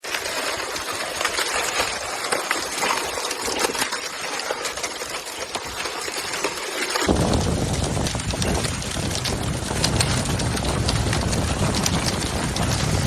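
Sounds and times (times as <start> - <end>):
thin ice crunching: 0.1 - 13.0.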